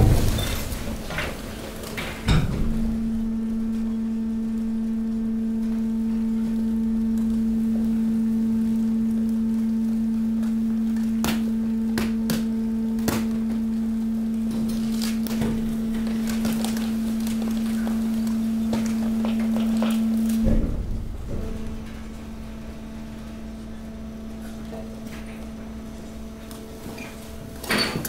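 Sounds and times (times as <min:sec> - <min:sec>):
hydraulic power unit humming: 0:00.0 - 0:28.0.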